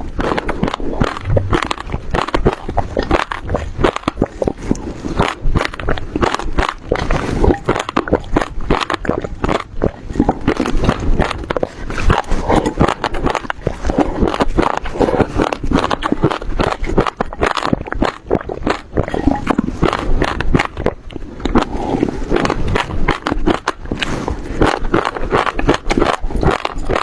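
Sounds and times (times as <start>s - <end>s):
crunchy chewing of fruit seeds: 0.0s - 27.0s
wet mouth sounds: 0.0s - 27.0s.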